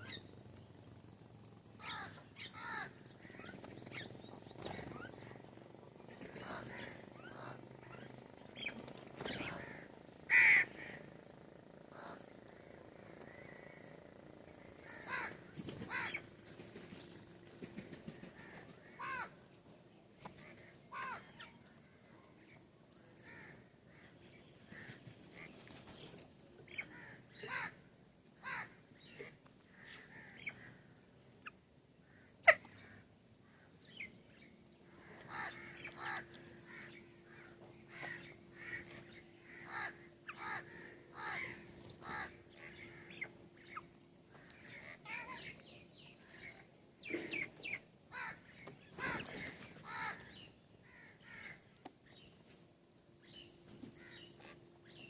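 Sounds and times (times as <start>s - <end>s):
birds calling: 0.0s - 27.8s, 28.4s - 52.5s, 53.2s - 55.0s.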